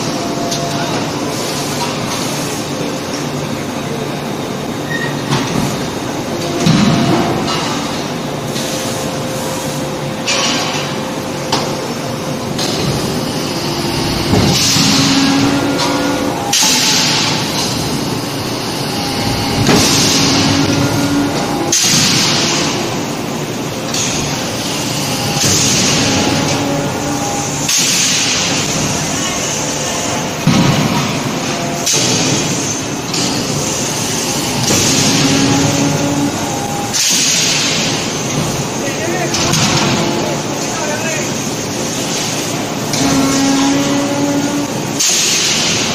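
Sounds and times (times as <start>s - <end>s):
machine hum: 0.0s - 45.9s.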